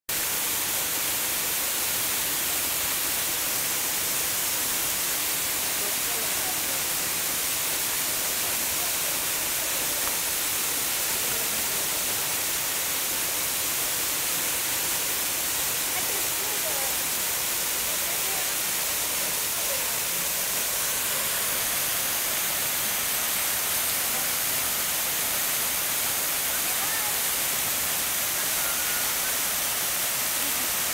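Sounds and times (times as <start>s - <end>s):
waterfall pouring into a pool: 0.1s - 30.9s.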